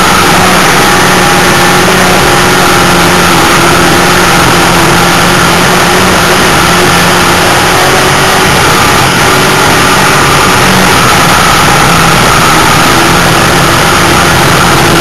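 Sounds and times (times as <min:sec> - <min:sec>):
heavy rush of noise: 0:00.0 - 0:15.0
race car engine: 0:00.0 - 0:15.0.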